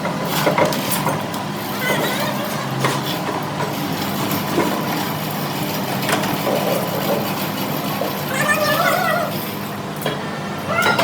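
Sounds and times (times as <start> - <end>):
mechanical running hum: 0.0 - 11.0.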